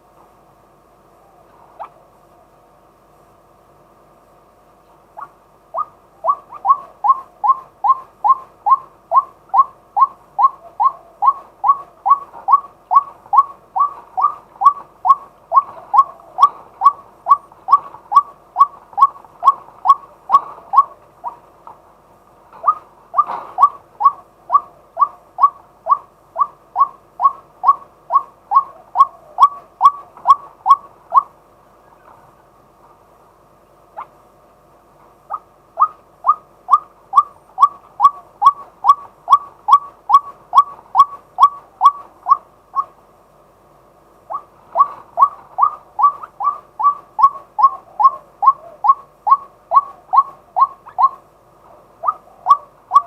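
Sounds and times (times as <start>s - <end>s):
waterhen calling: 1.2s - 2.0s, 5.2s - 21.8s, 22.5s - 32.5s, 35.2s - 43.0s, 44.2s - 53.0s.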